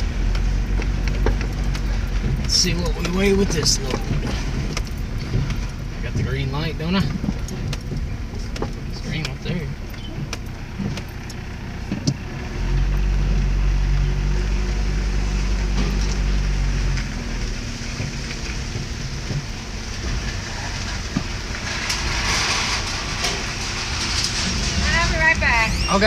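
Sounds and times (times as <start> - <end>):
pickup truck engine: 0.0 - 26.0.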